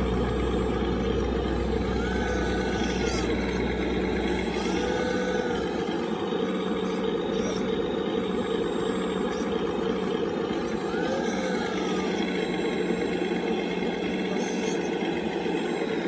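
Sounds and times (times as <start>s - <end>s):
excavator hydraulic pump running: 0.0s - 16.0s.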